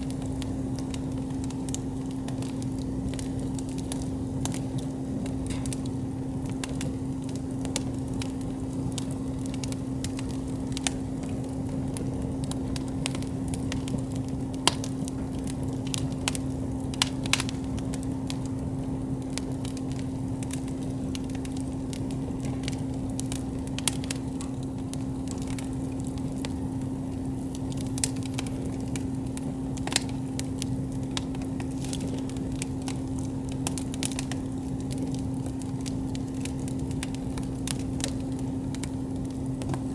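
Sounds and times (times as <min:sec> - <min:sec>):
campfire crackling and popping: 0:00.0 - 0:39.9
steady low hum: 0:00.0 - 0:39.9.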